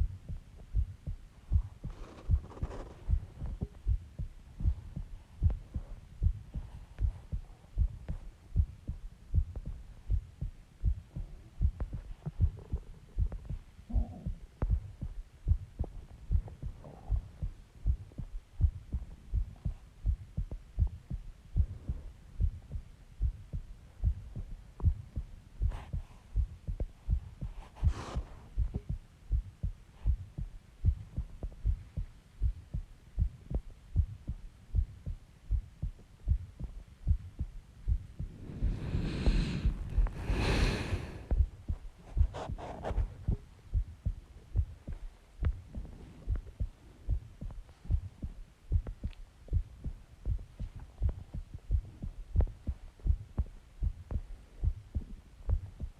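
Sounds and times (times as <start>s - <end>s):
heartbeat thumps: 0.0s - 55.9s.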